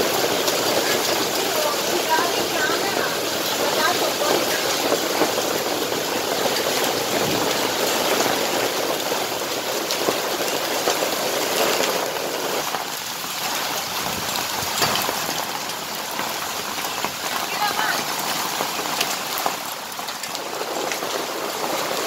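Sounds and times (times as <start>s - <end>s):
hail and rain pelting down: 0.0s - 22.0s.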